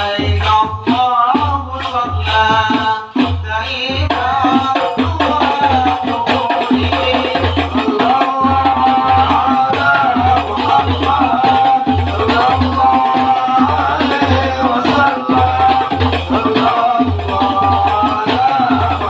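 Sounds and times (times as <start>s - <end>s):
frame drums playing rhythm: 0.0s - 19.0s
man singing into a microphone: 0.0s - 19.0s.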